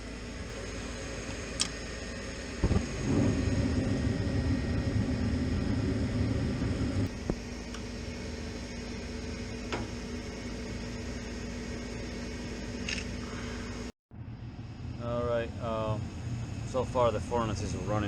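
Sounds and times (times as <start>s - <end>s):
furnace low rumble: 0.0s - 18.0s
furnace steady low hum: 0.0s - 18.0s.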